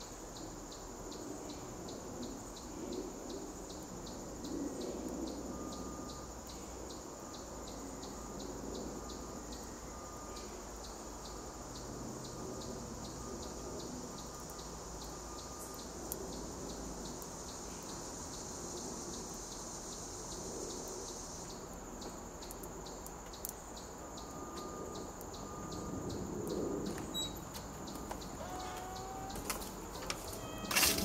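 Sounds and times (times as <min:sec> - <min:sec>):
insect chorus drone: 0:00.0 - 0:31.0
insect ticking pulse: 0:00.1 - 0:31.0.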